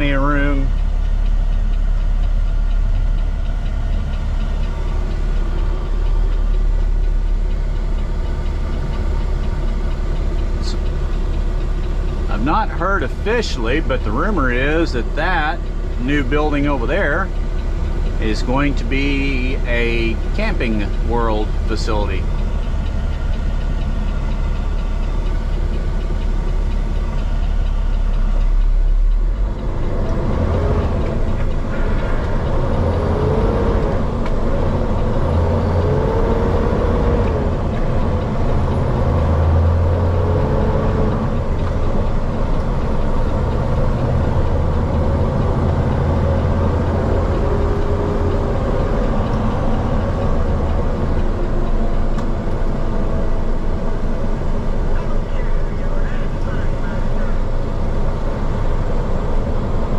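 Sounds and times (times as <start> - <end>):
truck diesel engine shifting gears: 0.0 - 59.9.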